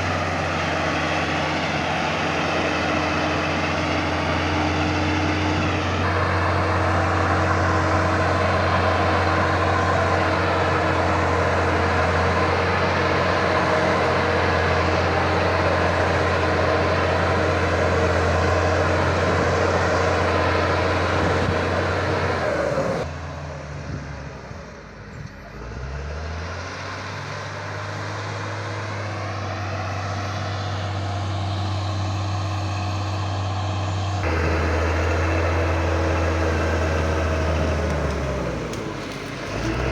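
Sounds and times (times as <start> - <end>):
bulldozer diesel engine running: 0.0 - 23.7, 27.6 - 39.9.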